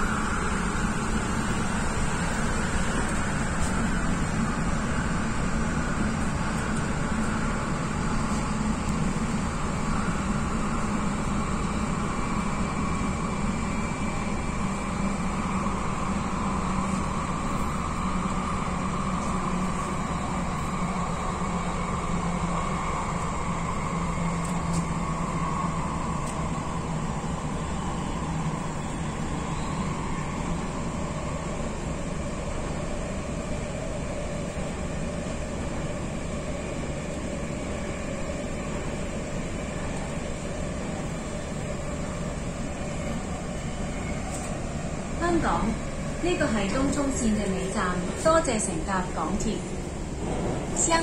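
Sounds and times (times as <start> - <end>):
train drive hum: 0.0 - 51.0
train wheels rumbling on rail: 0.0 - 51.0.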